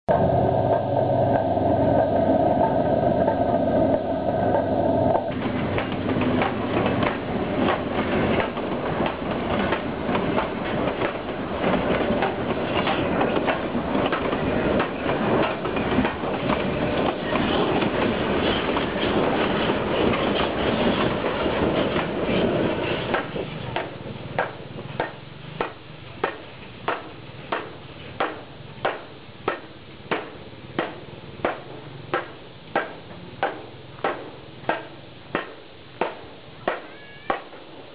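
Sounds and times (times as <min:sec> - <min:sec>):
train wheels clattering over rail joints: 0:02.6 - 0:37.7.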